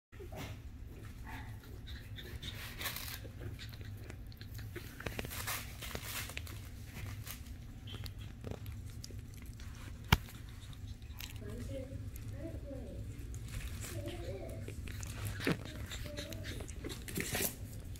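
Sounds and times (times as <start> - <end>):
low steady hum: 0.2 - 17.9
puppies scuffling: 0.2 - 17.9
small puppy sounds: 0.2 - 17.9.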